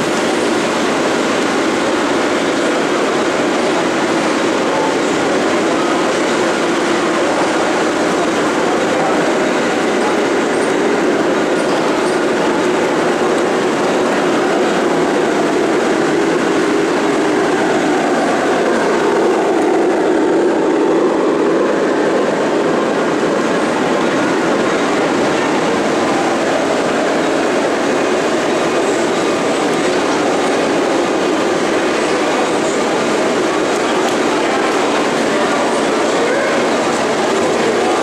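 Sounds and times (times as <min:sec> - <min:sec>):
model train passing: 0:00.0 - 0:38.0
model trains rumbling and clattering: 0:00.0 - 0:38.0.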